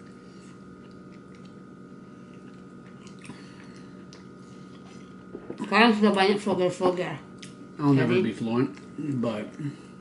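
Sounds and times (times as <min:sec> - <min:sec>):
low hum: 0:00.0 - 0:10.0
people chewing food: 0:00.0 - 0:10.0.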